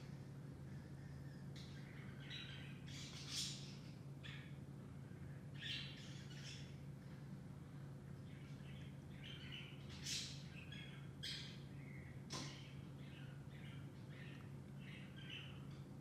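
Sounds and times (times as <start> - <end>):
birds chirping: 0.0 - 7.0, 7.8 - 16.0
faint low hum: 0.0 - 16.0.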